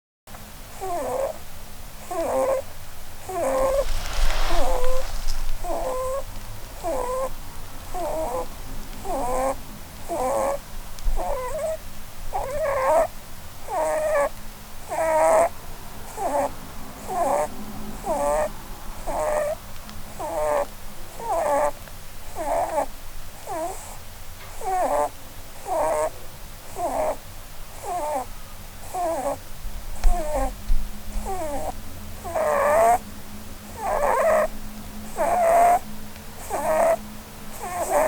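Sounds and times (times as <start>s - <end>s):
rabbit snoring: 0.7s - 15.5s, 16.1s - 30.6s, 31.2s - 33.0s, 33.7s - 34.5s, 35.1s - 35.8s, 36.4s - 38.0s.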